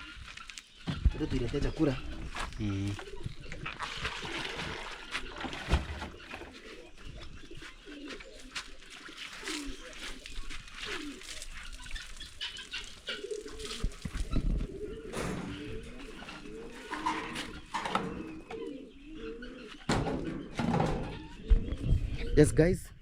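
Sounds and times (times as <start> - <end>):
birds cooing: 0.0 - 22.7.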